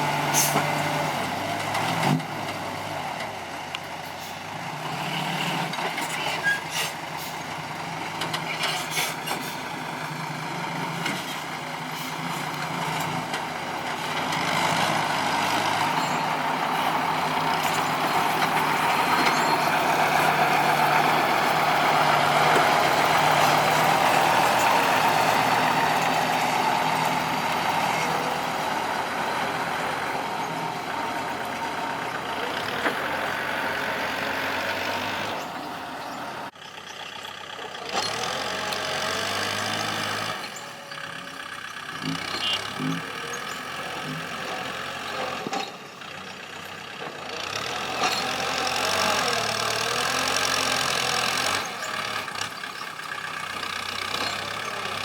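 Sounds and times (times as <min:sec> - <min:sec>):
diesel machinery engines running: 0:00.0 - 0:55.0.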